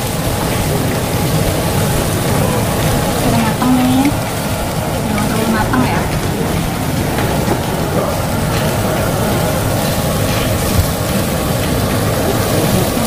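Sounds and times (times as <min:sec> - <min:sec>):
meat sizzling on a grill: 0:00.0 - 0:13.0
steady low rumble: 0:00.0 - 0:13.0.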